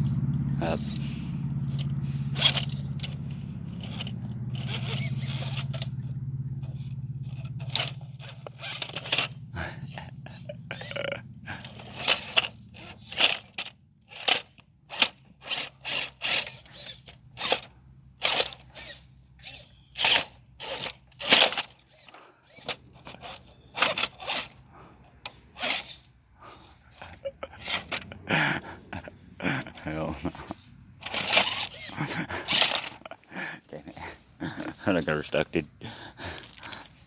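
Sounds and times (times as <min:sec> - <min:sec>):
tyres crunching and scraping on rocks: 0:00.0 - 0:10.9, 0:11.6 - 0:26.0, 0:29.0 - 0:37.0
electric motor hum: 0:00.0 - 0:37.0.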